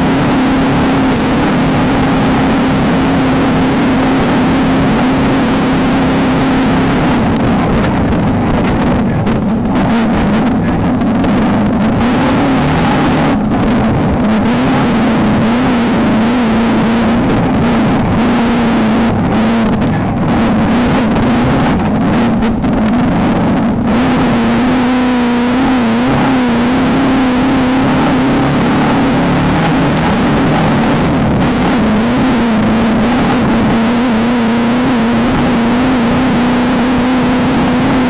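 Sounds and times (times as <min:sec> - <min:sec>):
race car engine at high revs: 0:00.0 - 0:38.0
wind and road noise: 0:00.0 - 0:38.0.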